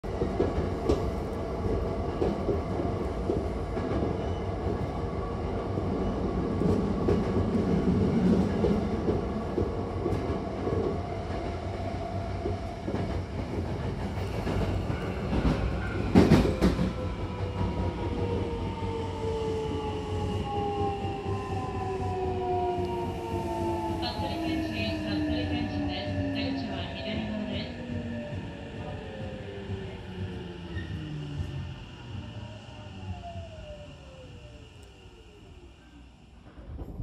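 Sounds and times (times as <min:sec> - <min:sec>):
train wheels rumbling on rail: 0:00.0 - 0:35.5.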